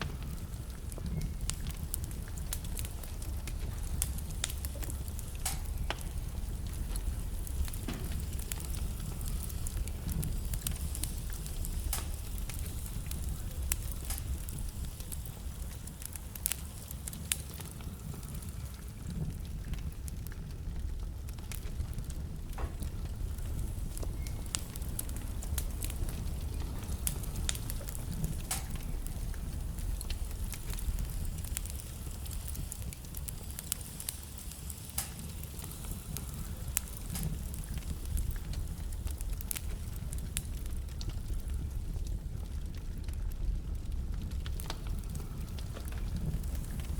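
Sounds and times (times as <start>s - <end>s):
fire rumbling: 0.0s - 46.9s
wood crackling and popping: 0.0s - 46.9s.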